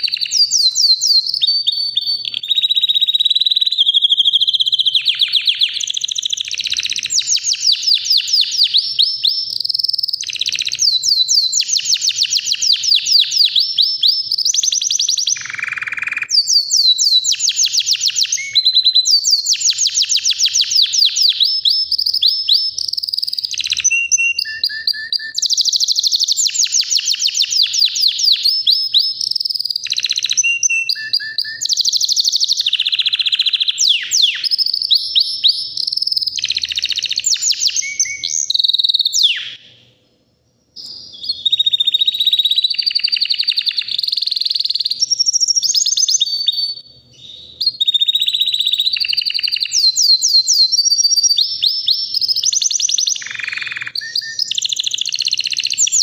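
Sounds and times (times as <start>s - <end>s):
canary singing trills: 0.0s - 40.0s, 40.6s - 56.0s.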